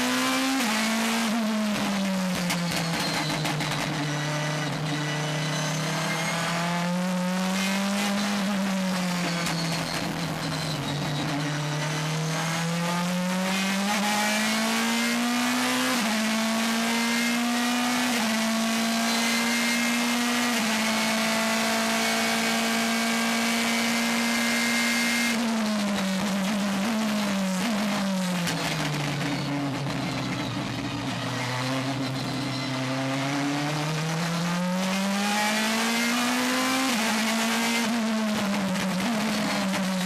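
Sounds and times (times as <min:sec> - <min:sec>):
race car engine high revs: 0:00.0 - 0:40.0.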